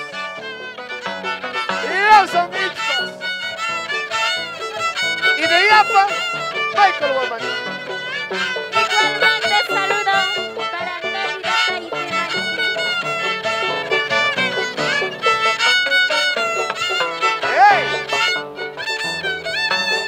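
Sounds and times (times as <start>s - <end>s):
harp accompaniment: 0.0s - 20.0s
violin sliding melody: 0.0s - 20.0s.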